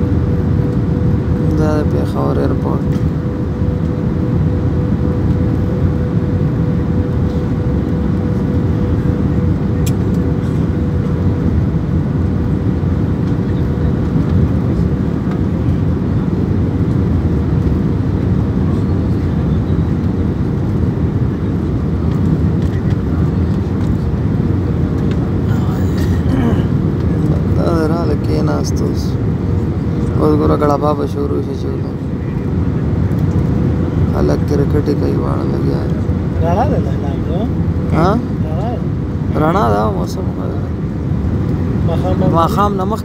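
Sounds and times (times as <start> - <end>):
jet engines and airflow rumble: 0.0 - 43.0
steady cabin hum: 0.0 - 43.0.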